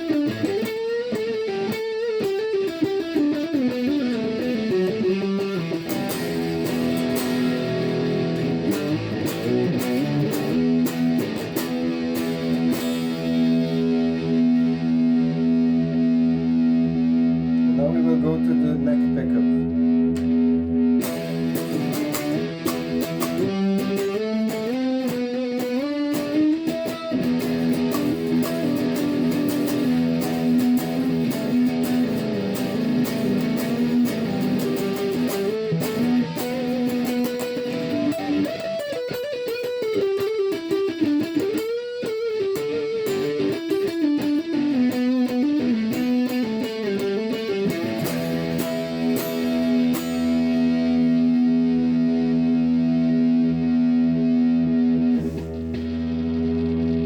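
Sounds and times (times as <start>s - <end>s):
electric guitar with drive: 0.0s - 57.0s.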